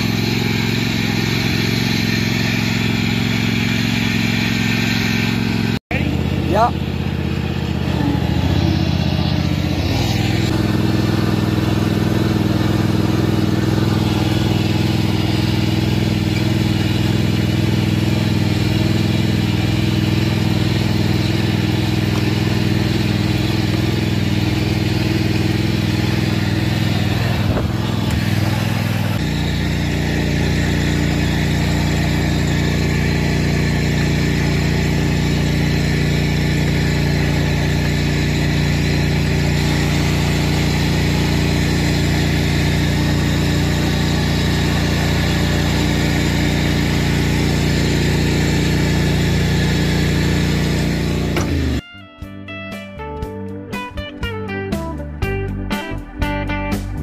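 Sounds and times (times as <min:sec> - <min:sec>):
lawn tractor engine under load: 0:00.0 - 0:51.8.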